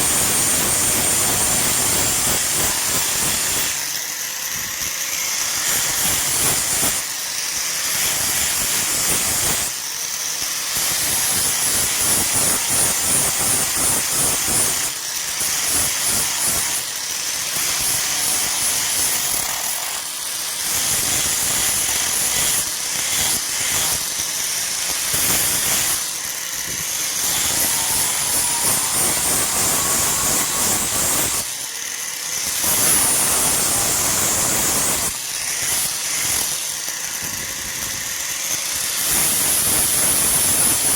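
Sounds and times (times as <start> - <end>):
power grinder grinding steel: 0.0 - 40.9.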